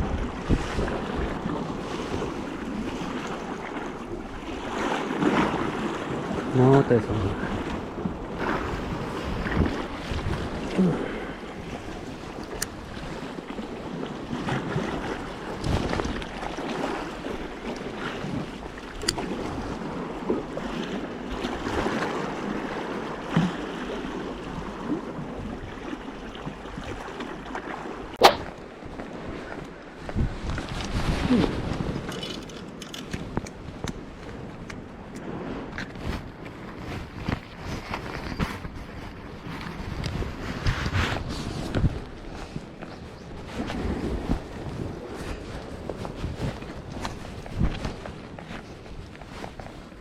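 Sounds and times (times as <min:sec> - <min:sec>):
sea waves washing among blocks: 0:00.0 - 0:50.0
wind on microphone: 0:00.0 - 0:50.0.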